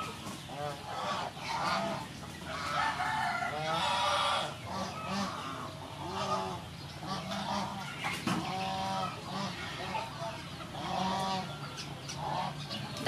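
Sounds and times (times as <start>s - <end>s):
fowl honking and clucking: 0.0s - 13.0s.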